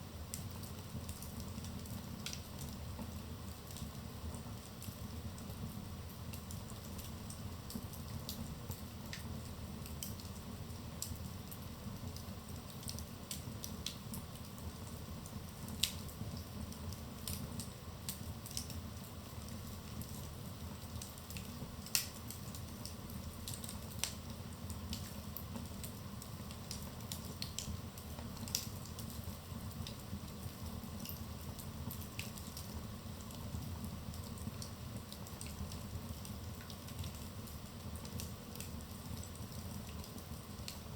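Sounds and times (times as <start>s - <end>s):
low rumble of flames: 0.0s - 40.9s
fire pops and snaps: 0.3s - 5.6s, 6.2s - 40.9s.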